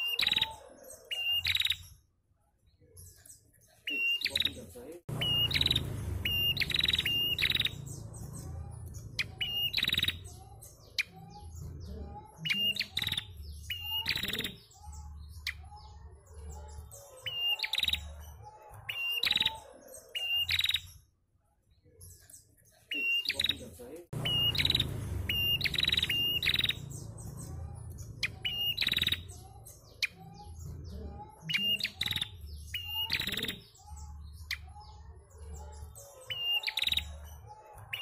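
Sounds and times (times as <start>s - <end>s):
bird chirping: 0.0s - 38.0s.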